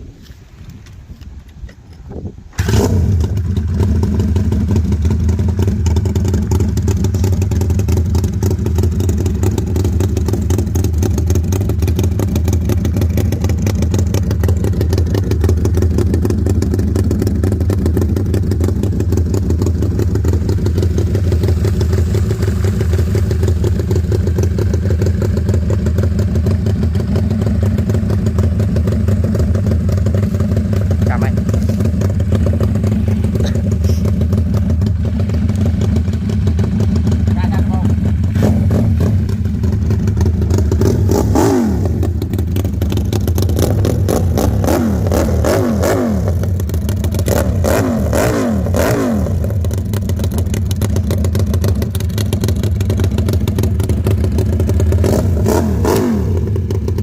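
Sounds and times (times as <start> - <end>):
engine starting and running: 0.2 - 57.0.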